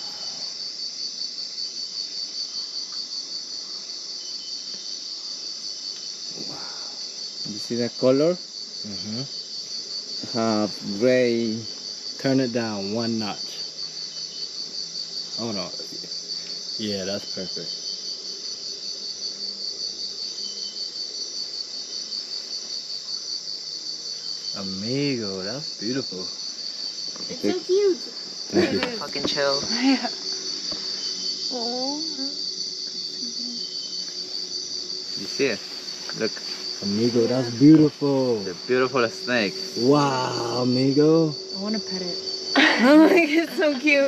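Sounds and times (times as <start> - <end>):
hiss of insects: 0.0 - 44.0
pulsing insect trill: 0.0 - 44.0.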